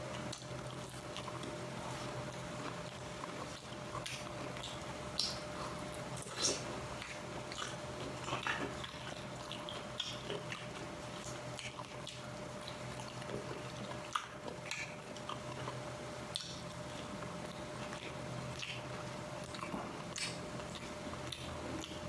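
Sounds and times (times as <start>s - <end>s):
steady low hum: 0.0s - 22.0s
wet chewing: 0.0s - 22.0s
mouth clicks and smacks: 2.4s - 22.0s.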